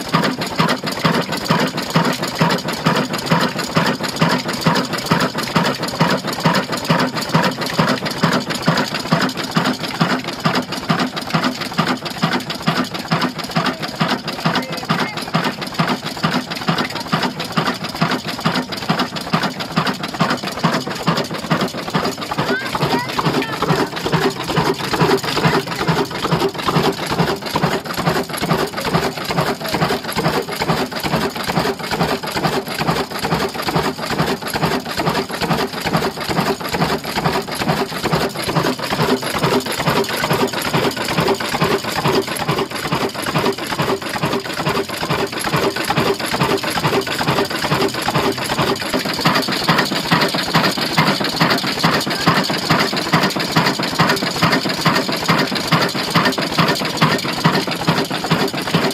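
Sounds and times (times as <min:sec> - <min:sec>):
old stationary engine clattering: 0:00.0 - 0:58.9.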